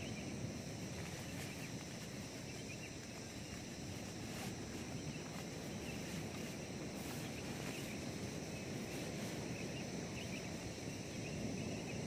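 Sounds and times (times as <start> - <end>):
faint chirping calls: 0.0 - 12.0
high insect chorus: 0.0 - 12.0.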